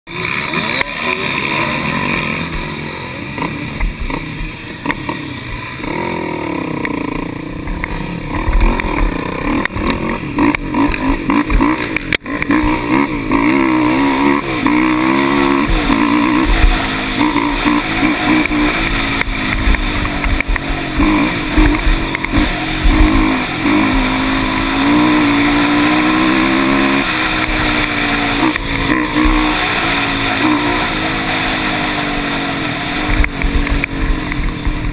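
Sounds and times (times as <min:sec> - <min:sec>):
atv engine revving: 0:00.1 - 0:34.9.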